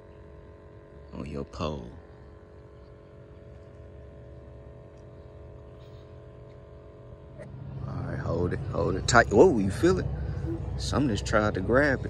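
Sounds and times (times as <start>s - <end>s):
distant engine hum: 0.0s - 12.0s.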